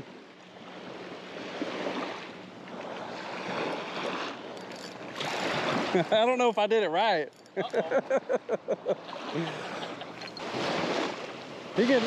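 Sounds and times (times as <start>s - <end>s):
waves washing against shoreline: 0.0s - 12.0s.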